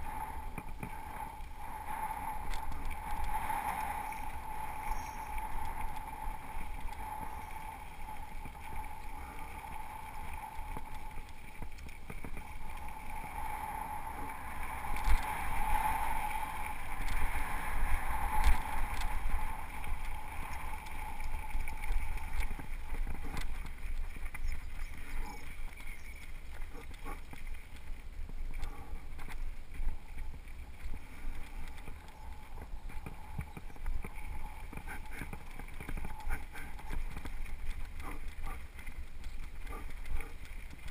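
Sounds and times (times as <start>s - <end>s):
bike tyres rolling on gravel: 0.0s - 40.9s.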